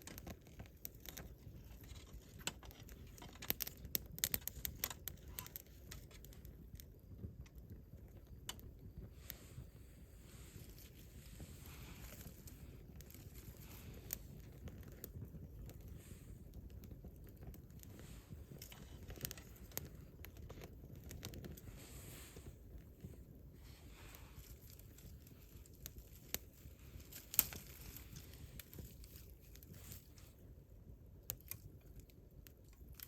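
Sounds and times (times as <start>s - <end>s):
campfire crackling and popping: 0.0s - 33.0s
low steady fire rumble: 0.0s - 33.0s.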